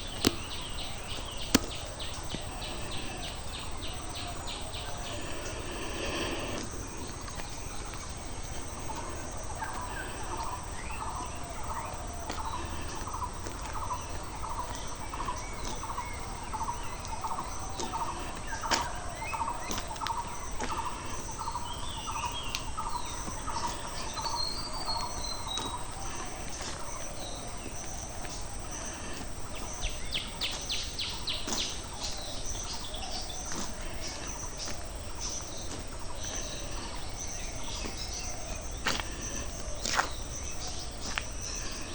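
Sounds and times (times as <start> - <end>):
birds chirping: 0.0 - 41.9
faint insect trill: 0.0 - 41.9.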